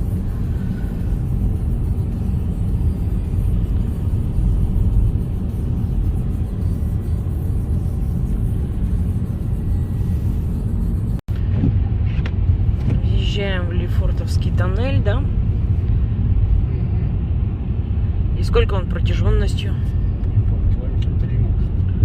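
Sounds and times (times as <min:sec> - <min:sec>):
car road rumble from inside: 0:00.0 - 0:22.0.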